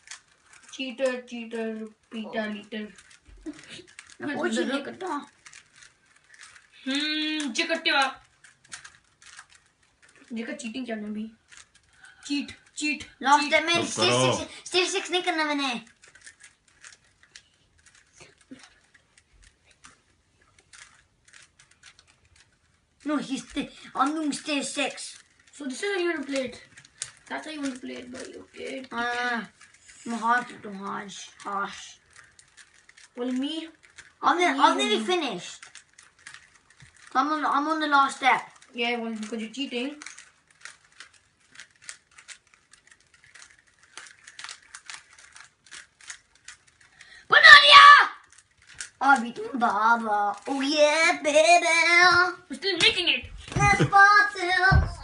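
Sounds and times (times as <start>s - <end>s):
plastic clicks of puzzle cube turning: 0.0s - 55.0s.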